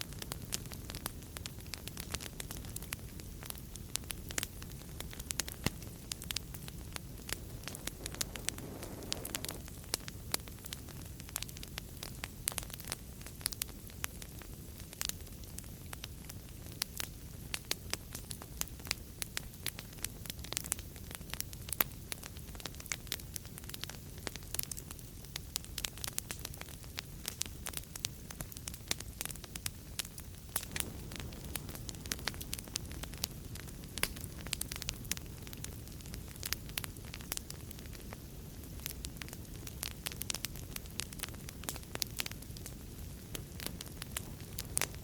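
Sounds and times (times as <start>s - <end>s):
fire crackling and popping: 0.0s - 45.0s
fire flames rumbling: 0.0s - 45.0s.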